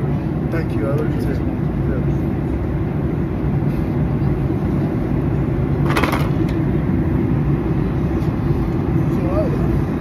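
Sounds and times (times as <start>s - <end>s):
engine and airflow drone: 0.0s - 10.0s.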